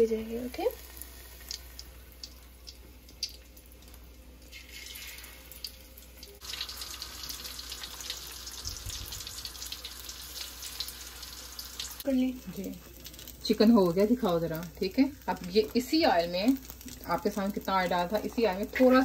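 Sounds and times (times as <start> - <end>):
hot oil sizzling and spitting: 0.0 - 19.0.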